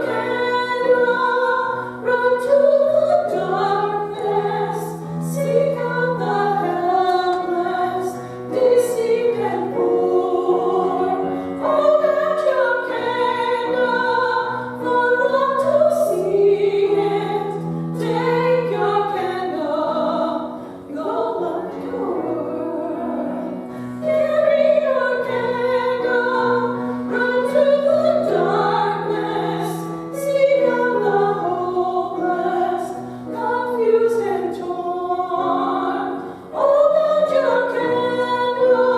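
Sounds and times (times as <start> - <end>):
two people singing worship song: 0.0 - 38.9.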